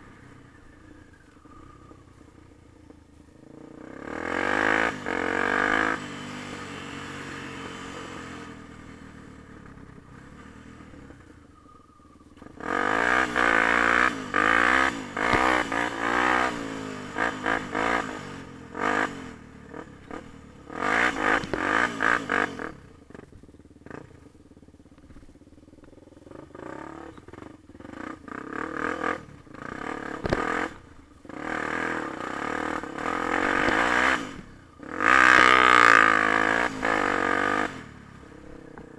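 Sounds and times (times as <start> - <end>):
dirt bike engine revving: 3.2 - 11.6, 12.4 - 23.2, 26.4 - 38.9.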